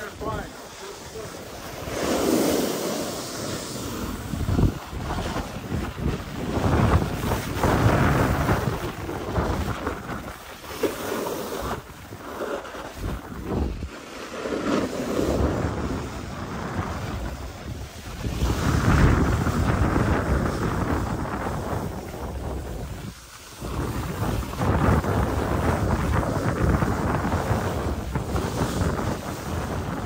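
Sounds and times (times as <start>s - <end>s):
wind buffeting microphone: 0.0s - 14.0s, 14.6s - 30.0s
skis scraping packed snow: 0.0s - 30.0s.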